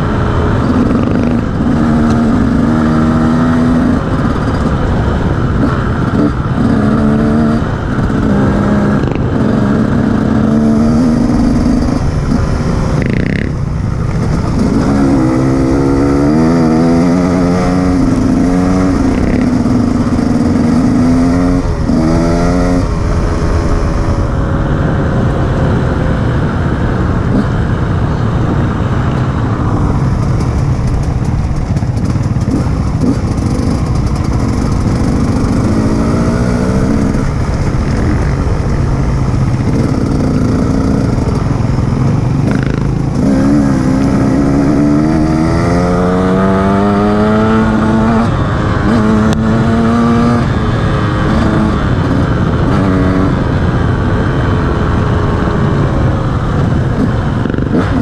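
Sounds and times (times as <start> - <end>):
constant rushing noise: 0.0 - 58.0
motorcycle engine accelerating: 0.0 - 58.0.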